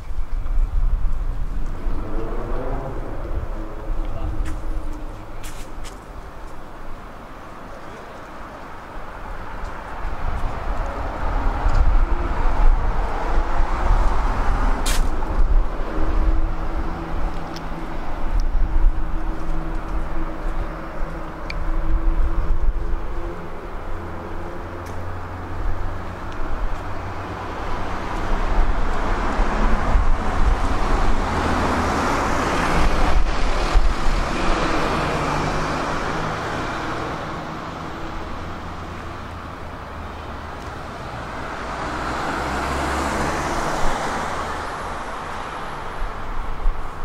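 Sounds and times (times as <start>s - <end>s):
cars passing: 0.0s - 47.0s.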